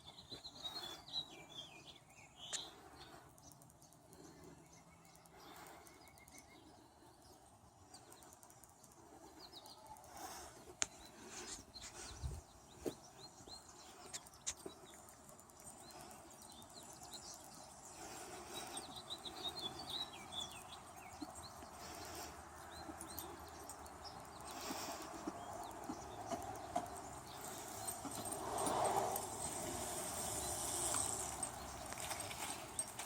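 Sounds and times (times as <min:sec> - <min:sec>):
faint background noise: 0:00.0 - 0:33.0
small birds chirping: 0:00.0 - 0:33.0.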